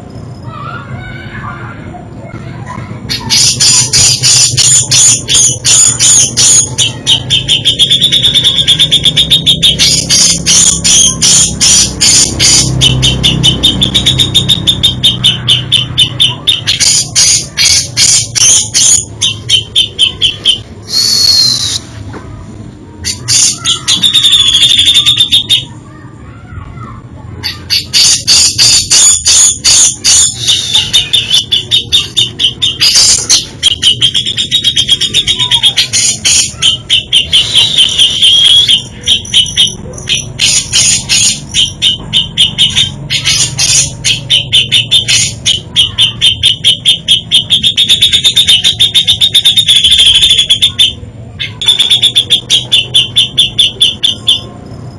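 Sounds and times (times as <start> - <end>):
bulbul singing: 2.3 - 22.0, 22.9 - 26.1, 27.4 - 54.9.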